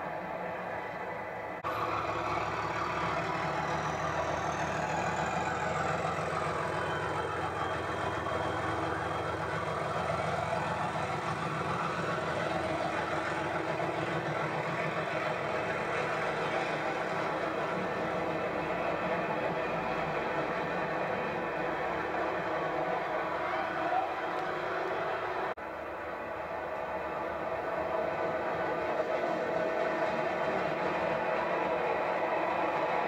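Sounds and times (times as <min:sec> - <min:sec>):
diesel locomotive engine: 0:00.0 - 0:33.0
high-pitched engine whine: 0:00.0 - 0:33.0.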